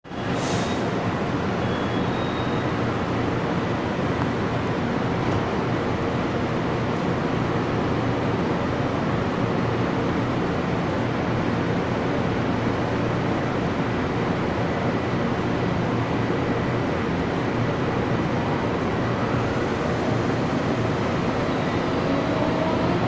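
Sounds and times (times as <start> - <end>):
electric train rumbling: 0.1 - 23.0.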